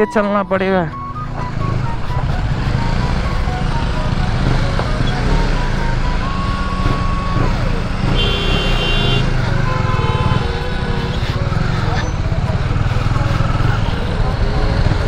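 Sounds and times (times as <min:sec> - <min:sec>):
motorcycle engine at low speed: 0:01.2 - 0:15.0.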